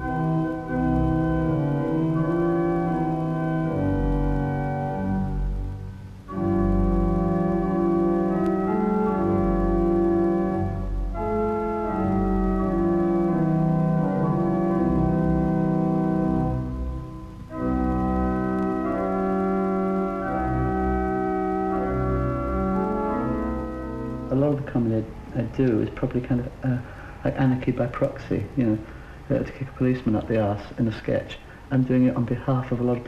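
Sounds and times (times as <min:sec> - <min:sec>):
organ playing held chords: 0:00.0 - 0:31.7.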